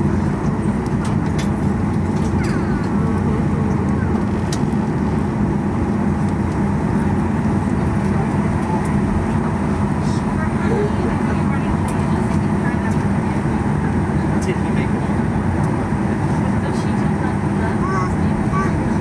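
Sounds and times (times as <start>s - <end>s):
aircraft cabin drone: 0.0s - 19.0s.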